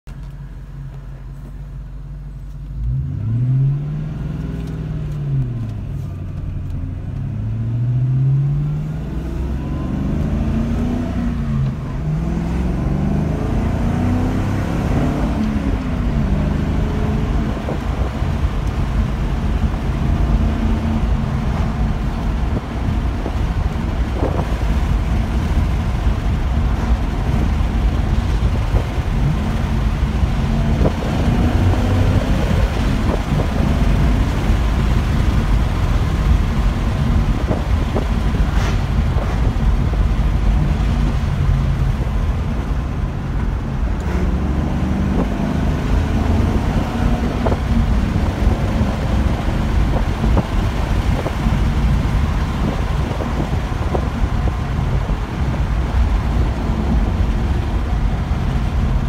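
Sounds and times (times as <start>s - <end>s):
road noise: 0.0s - 59.0s
car engine revving: 2.8s - 59.0s.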